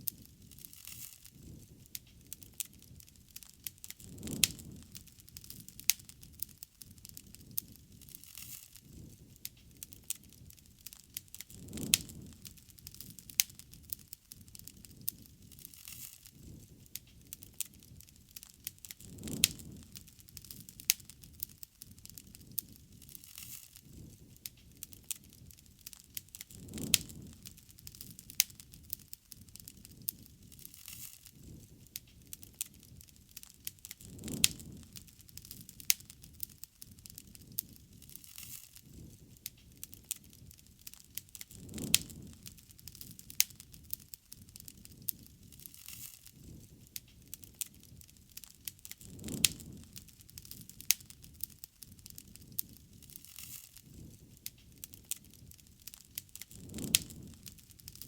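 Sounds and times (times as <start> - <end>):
loud pop of fire: 0.0 - 58.0
low rush of flame: 0.0 - 58.0
wood bonfire crackling: 0.0 - 58.0.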